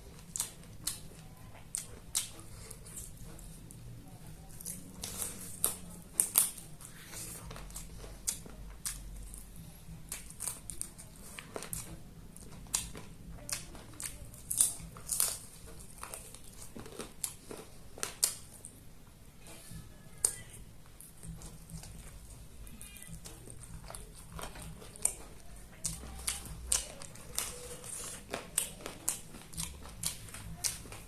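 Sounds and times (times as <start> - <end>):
person chewing crunchy food: 0.0 - 18.8, 20.2 - 31.0.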